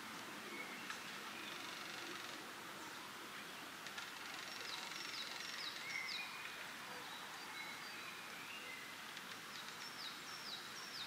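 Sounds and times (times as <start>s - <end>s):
songbirds singing: 0.0s - 11.0s
wind in leaves: 0.0s - 11.0s.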